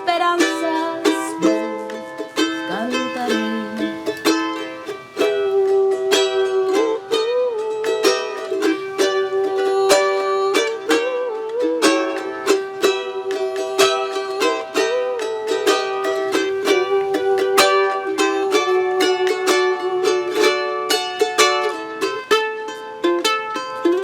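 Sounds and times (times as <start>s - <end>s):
held bending melody line: 0.0s - 22.1s
plucked string instrument strummed: 0.0s - 24.0s.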